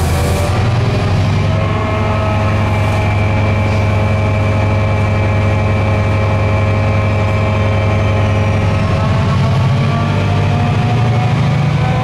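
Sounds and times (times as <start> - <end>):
diesel locomotive engine drone: 0.0 - 12.0
steady whining tones: 0.0 - 12.0.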